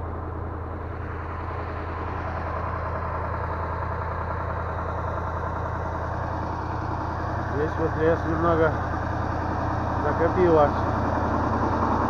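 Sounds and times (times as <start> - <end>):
machine engine idling: 0.0 - 12.0.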